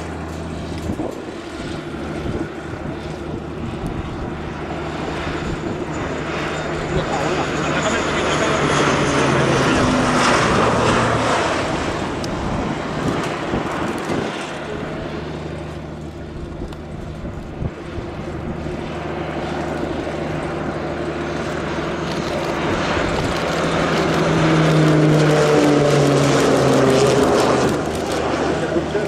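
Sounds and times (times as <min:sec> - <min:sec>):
propeller plane flying past: 0:00.0 - 0:29.0.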